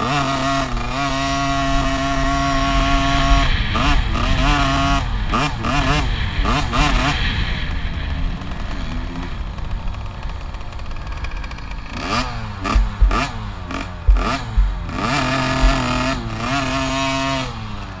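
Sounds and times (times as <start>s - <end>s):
two-stroke motorbike engine revving: 0.0s - 18.0s.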